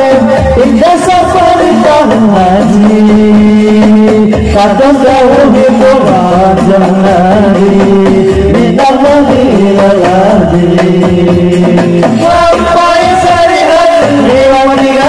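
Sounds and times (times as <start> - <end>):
men singing held notes: 0.0 - 15.0.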